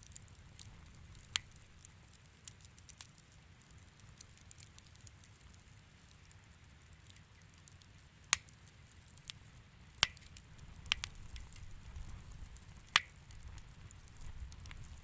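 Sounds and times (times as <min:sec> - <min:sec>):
fire crackling in fireplace: 0:00.0 - 0:15.0
sharp pops of fire: 0:00.0 - 0:15.0.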